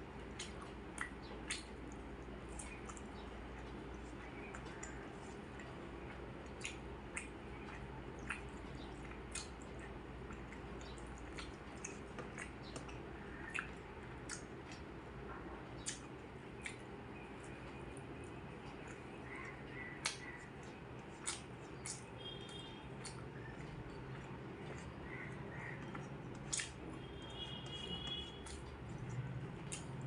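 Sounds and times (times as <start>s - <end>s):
person chewing with mouth smacks: 0.2s - 15.0s, 15.7s - 30.0s.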